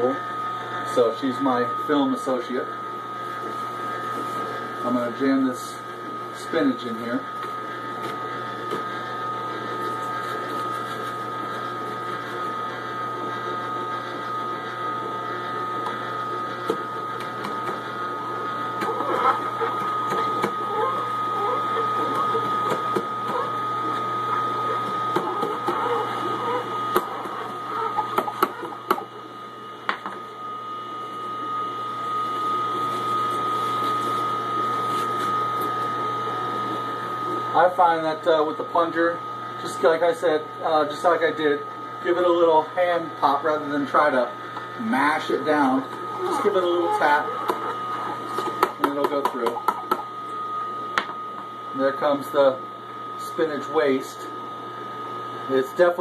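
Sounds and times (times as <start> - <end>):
juicer motor humming: 0.0 - 56.0.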